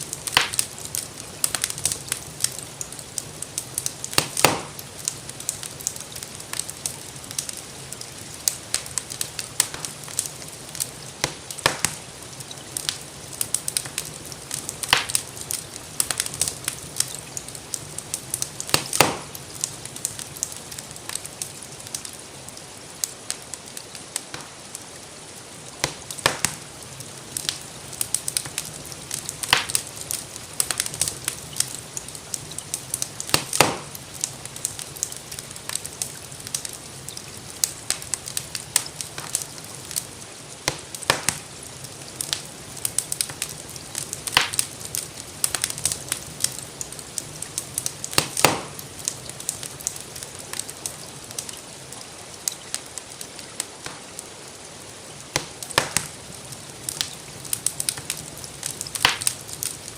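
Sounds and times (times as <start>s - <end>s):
sharp fire pops: 0.0s - 22.1s, 24.2s - 24.7s, 25.8s - 52.8s, 53.6s - 54.2s, 55.2s - 59.9s
gentle rain: 0.0s - 59.9s
wood fire crackling: 0.0s - 59.9s.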